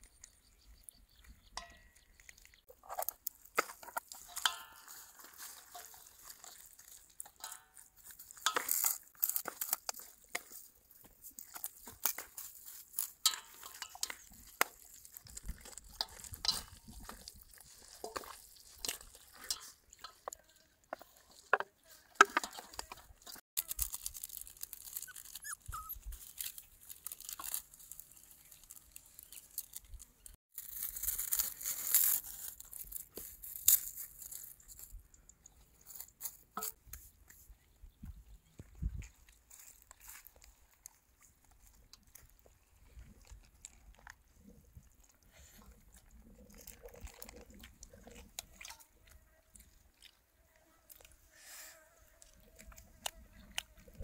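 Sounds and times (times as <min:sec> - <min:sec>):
crinkling and tearing: 0:02.1 - 0:37.4, 0:39.0 - 0:51.3, 0:52.0 - 0:54.0.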